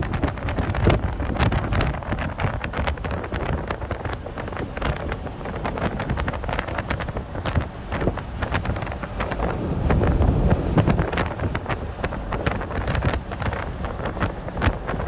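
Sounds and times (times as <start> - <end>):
wind gusting over microphone: 0.0 - 15.0.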